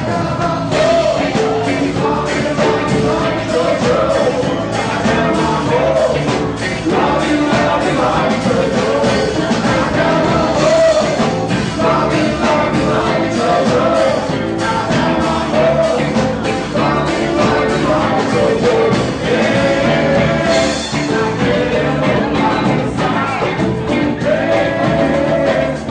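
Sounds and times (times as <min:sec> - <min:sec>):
band playing: 0:00.0 - 0:25.9
person singing: 0:00.0 - 0:25.9.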